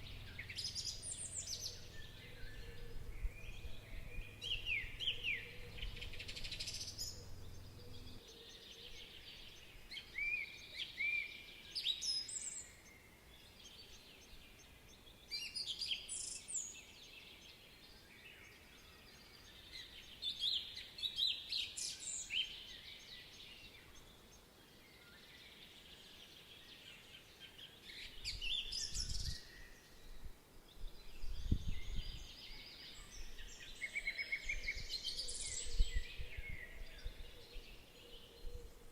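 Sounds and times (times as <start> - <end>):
songbirds warbling: 0.0 - 38.9.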